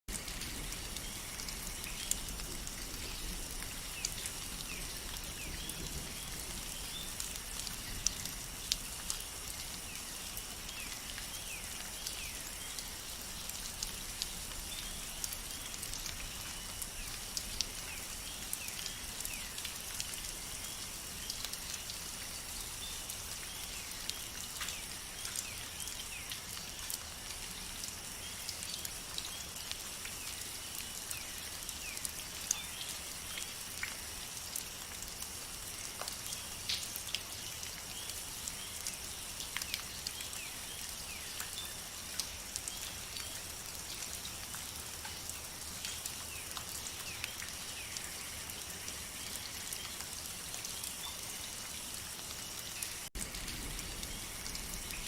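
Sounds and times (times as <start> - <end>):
raindrops ticking: 0.1 - 55.0
steady rain hiss: 0.1 - 55.0.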